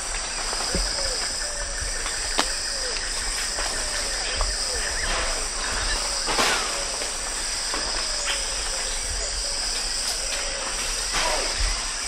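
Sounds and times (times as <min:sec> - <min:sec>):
insects droning: 0:00.0 - 0:12.0
monkey falling calls: 0:00.1 - 0:12.0.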